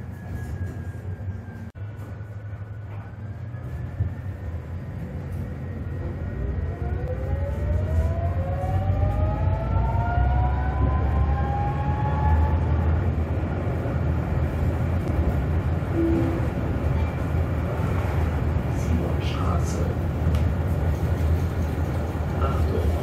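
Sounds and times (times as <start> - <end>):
tram running with motor whine: 0.0 - 23.0.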